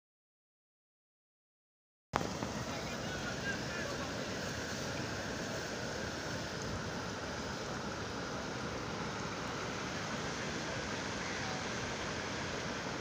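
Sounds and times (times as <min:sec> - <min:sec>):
floodwater rushing: 0:02.2 - 0:13.0.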